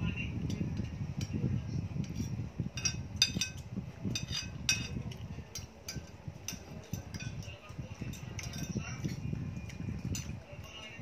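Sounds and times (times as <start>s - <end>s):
low background rumble: 0.0s - 11.0s
spoons and dishes clinking: 0.5s - 11.0s.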